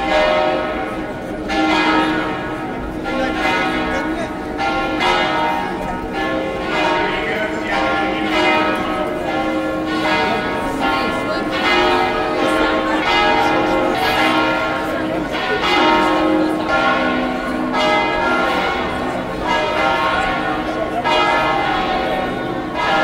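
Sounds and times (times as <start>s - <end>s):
church bells pealing: 0.0s - 23.0s.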